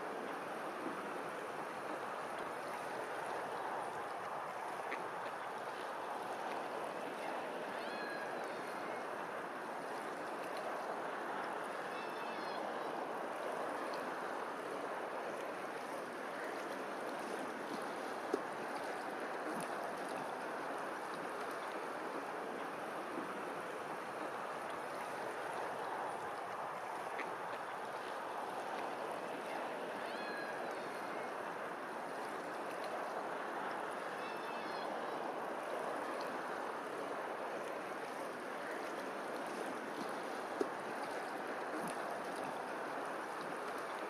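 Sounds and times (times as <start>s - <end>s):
water lapping: 0.0s - 44.0s.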